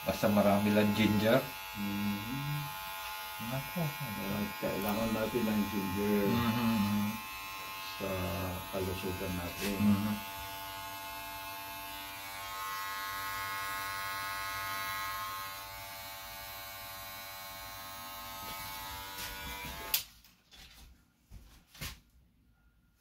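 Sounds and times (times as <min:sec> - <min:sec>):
electric hair clippers buzzing: 0:00.0 - 0:20.1.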